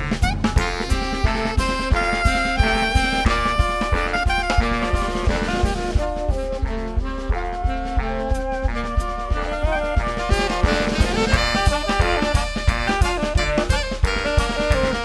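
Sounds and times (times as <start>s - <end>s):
drum kit beat: 0.0s - 15.0s
saxophone-led band music: 0.0s - 15.0s.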